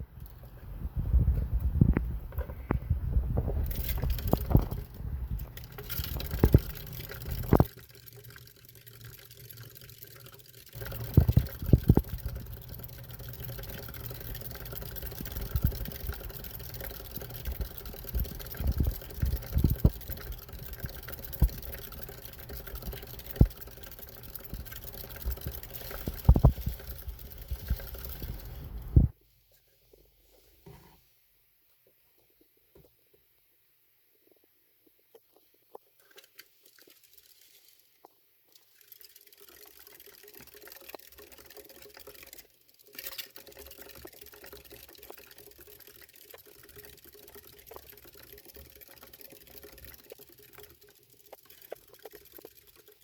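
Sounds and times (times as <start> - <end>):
hamster running with clicks: 1.2 - 29.1, 35.8 - 53.0.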